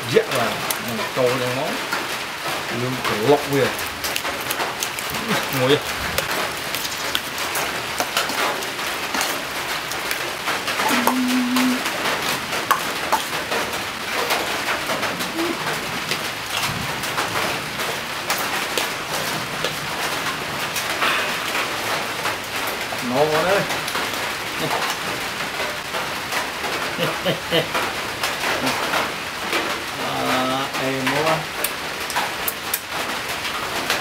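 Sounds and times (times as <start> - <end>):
steady hiss: 0.0 - 31.8.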